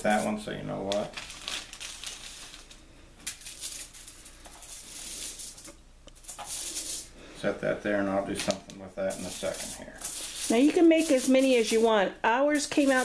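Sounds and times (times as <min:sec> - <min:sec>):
foil rustling and crinkling: 0:00.0 - 0:07.1, 0:08.3 - 0:13.0.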